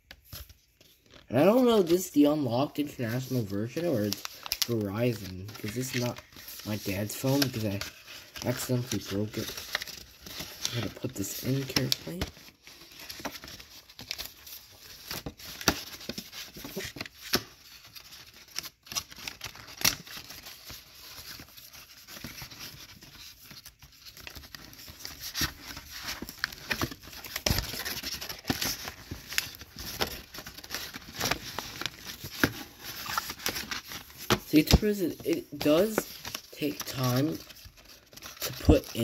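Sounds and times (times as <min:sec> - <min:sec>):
paper rustling and crinkling: 0:00.0 - 0:39.0.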